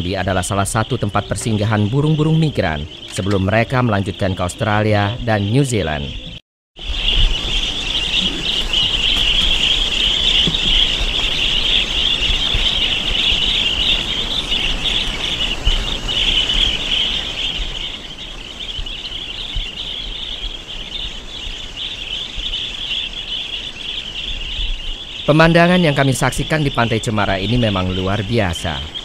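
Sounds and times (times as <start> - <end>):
flock of birds twittering: 0.0 - 29.0.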